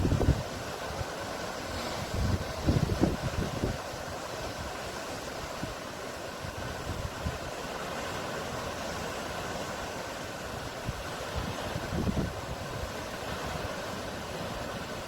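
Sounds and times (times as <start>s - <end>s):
wind rumble on microphone: 0.0s - 7.7s, 8.4s - 15.0s
ocean waves and surf: 0.0s - 15.0s.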